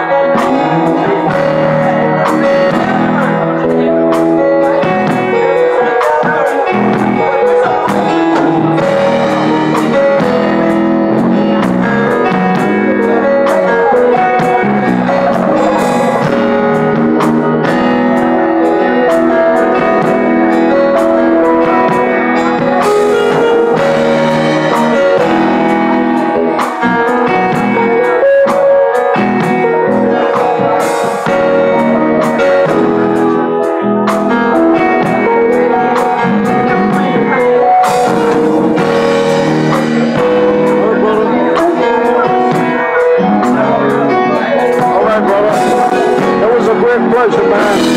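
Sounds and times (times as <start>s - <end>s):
electric guitar: 0.0s - 47.9s
keyboard playing: 0.0s - 47.9s.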